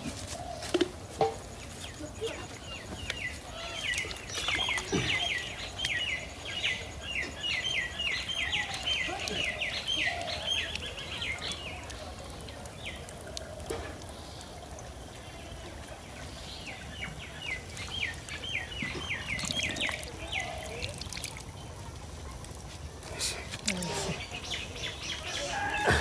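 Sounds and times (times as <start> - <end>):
water trickling into pump: 0.0 - 26.0.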